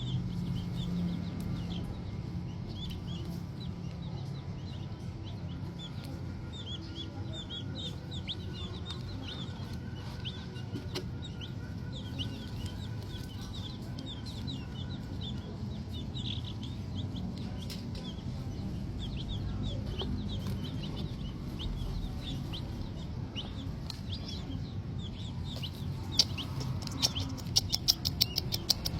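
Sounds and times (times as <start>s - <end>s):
chicks cheeping: 0.0s - 28.9s.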